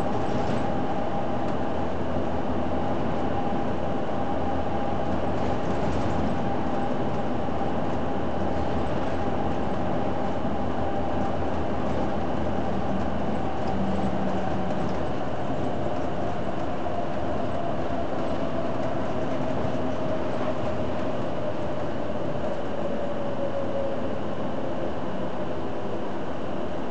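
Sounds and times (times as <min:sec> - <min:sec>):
bus engine and road noise: 0:00.0 - 0:26.9.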